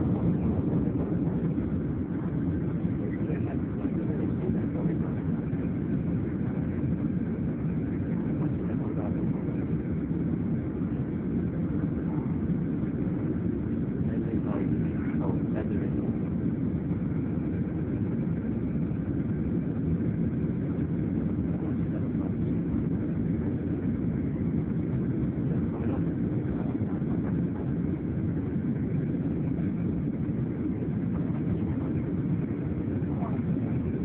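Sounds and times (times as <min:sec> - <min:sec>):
jet engines low rumble: 0:00.0 - 0:34.0.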